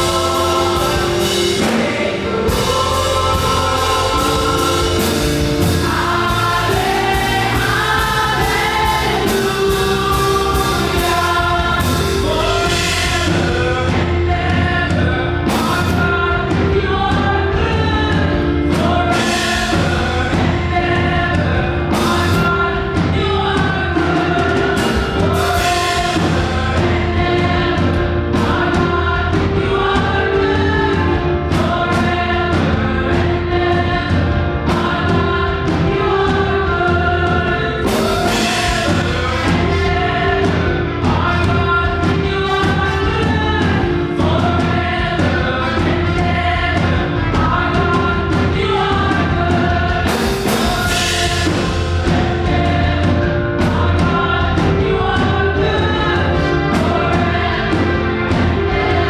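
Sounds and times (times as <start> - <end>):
band with bass and drums: 0.0 - 59.0
group singing gospel: 0.0 - 59.0.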